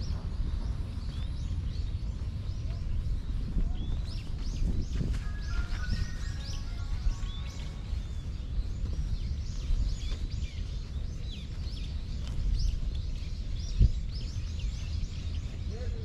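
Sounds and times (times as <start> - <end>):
low rumble of wind: 0.0 - 16.0
small birds chirping: 0.0 - 16.0.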